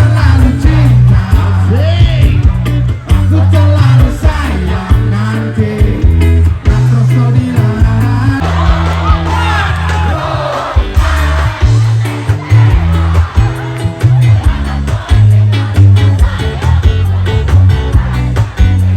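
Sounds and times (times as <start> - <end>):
loud music with heavy bass: 0.0 - 18.9.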